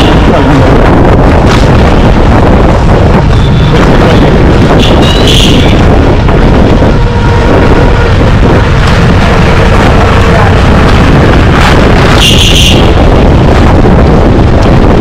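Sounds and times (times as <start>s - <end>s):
street traffic: 0.0s - 15.0s
wind buffeting microphone: 0.0s - 15.0s.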